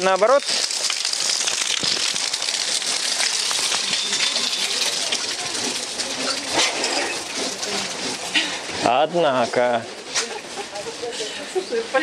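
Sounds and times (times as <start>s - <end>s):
drainpipe water splashing on pavement: 0.0s - 12.0s
heavy rain: 0.0s - 12.0s.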